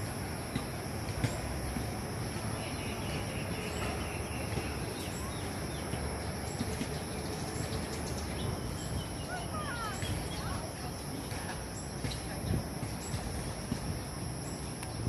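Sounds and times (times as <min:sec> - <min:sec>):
low outdoor background noise: 0:00.0 - 0:15.0
birds chirping: 0:02.6 - 0:15.0.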